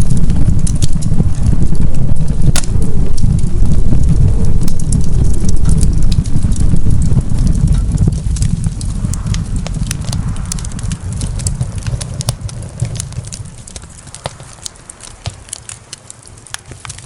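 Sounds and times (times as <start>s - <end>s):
steady low rumble: 0.0s - 17.0s
wood fire crackling and popping: 0.0s - 17.0s.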